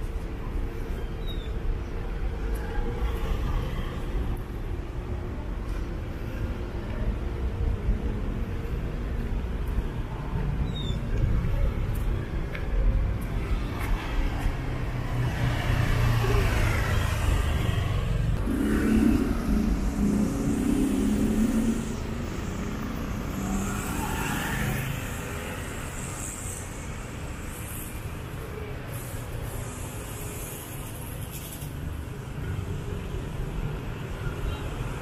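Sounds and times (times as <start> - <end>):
steady traffic hum: 0.0 - 35.0
vehicles passing close by: 0.0 - 35.0.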